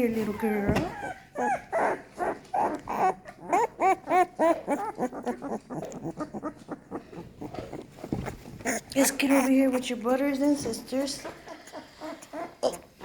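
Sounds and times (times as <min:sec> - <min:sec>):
puppy whining: 0:00.2 - 0:09.6, 0:11.2 - 0:13.0.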